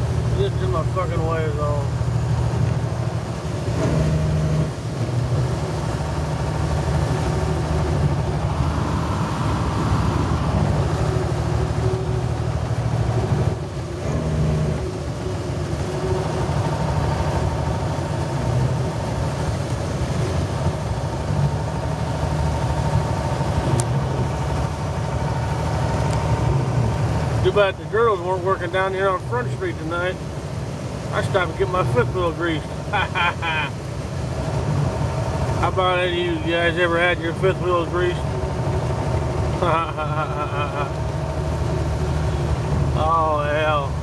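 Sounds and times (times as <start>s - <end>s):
road noise: 0.0s - 44.0s
truck diesel engine running: 0.0s - 44.0s.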